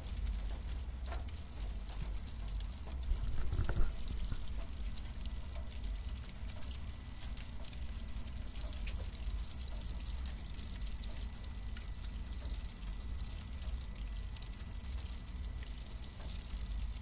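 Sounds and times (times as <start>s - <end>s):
cardboard burning crackle: 0.0s - 17.0s.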